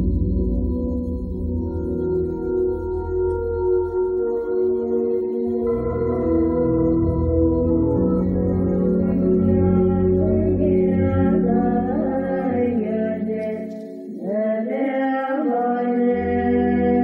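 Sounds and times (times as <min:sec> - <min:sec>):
song with vocals over chords: 0:00.0 - 0:17.0.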